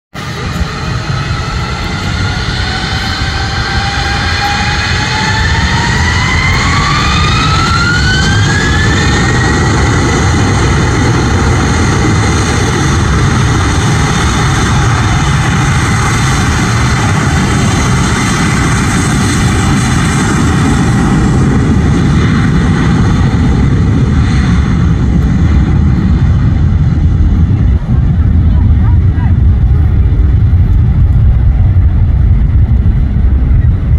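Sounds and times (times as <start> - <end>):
jet engine fan whine: 0.1 - 33.9
loud engine rumble: 0.1 - 33.9.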